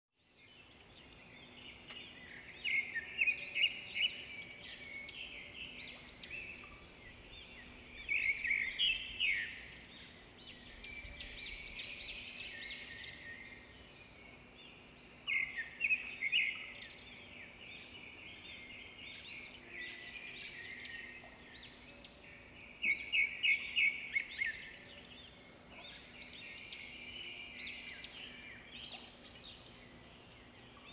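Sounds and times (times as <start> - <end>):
wild birds chirping and singing: 0.2 - 30.9.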